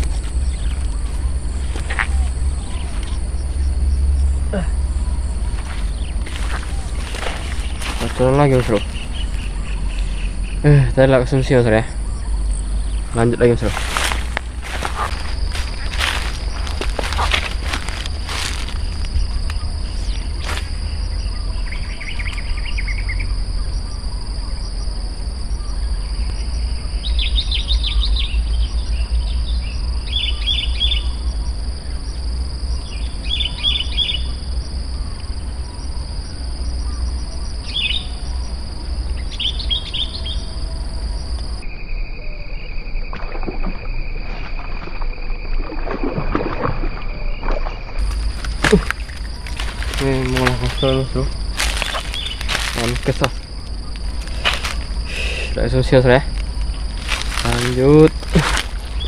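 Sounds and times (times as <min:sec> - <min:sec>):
birds chirping: 0:00.0 - 0:59.0
constant low rumble: 0:00.0 - 0:59.0
high insect drone: 0:00.0 - 0:59.0.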